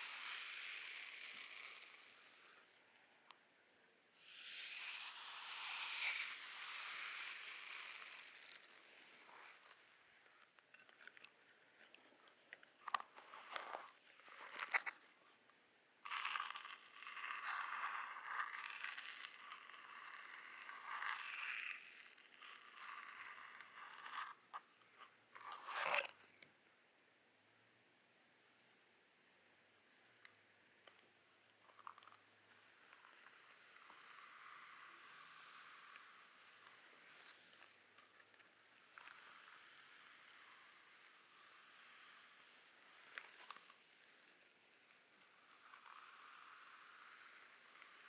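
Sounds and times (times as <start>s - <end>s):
massage tool brushing and scraping: 0.0s - 2.8s, 4.2s - 15.0s, 16.1s - 26.4s, 32.8s - 48.0s.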